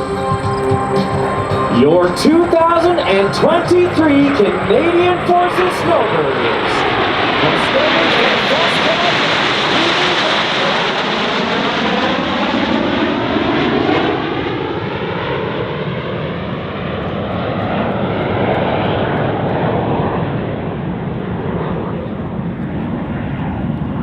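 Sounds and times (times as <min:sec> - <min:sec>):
jet engines flying past: 0:00.0 - 0:24.0.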